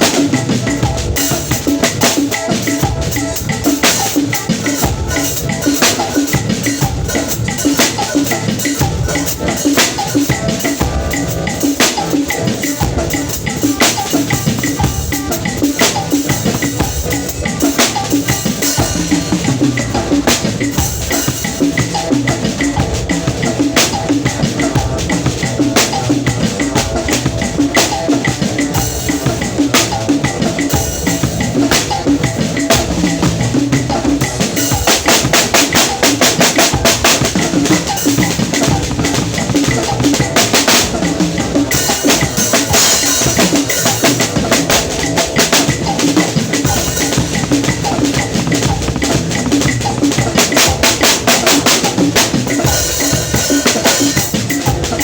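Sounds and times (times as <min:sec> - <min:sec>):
drum kit groove: 0:00.0 - 0:55.0.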